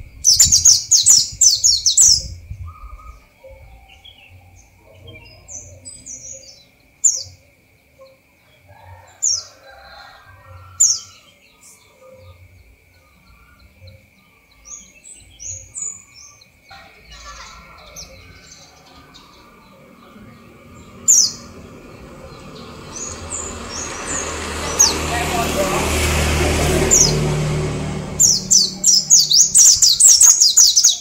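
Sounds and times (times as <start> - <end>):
bird singing trills and chirps: 0.0 - 7.4, 10.8 - 26.1, 26.7 - 31.0.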